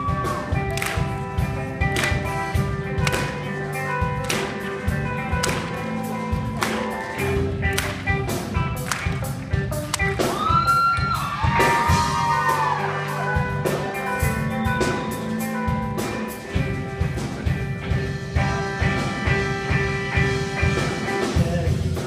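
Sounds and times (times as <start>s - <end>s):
punk rock band playing: 0.0s - 22.0s.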